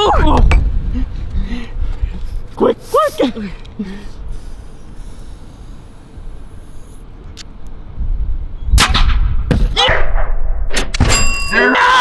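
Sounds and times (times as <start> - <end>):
car road and wind rumble: 0.0 - 9.8.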